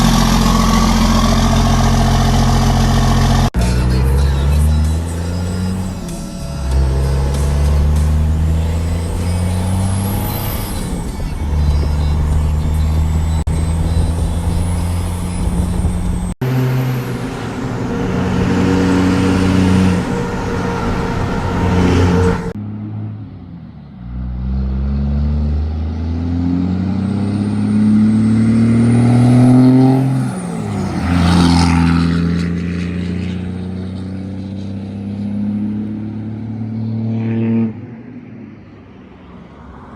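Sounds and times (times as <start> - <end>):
diesel engine accelerating: 0.0 - 38.2.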